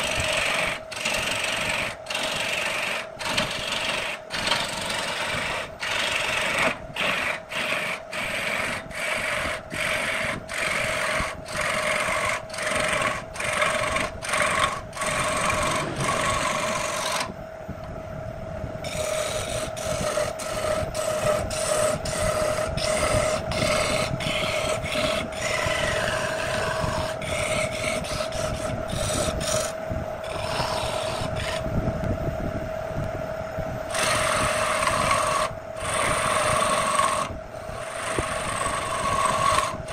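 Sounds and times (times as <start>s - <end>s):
turning tool scraping wood: 0.0s - 17.3s, 18.8s - 31.7s, 33.9s - 39.9s
wood lathe motor hum: 0.0s - 17.4s, 18.8s - 31.7s, 33.9s - 39.9s.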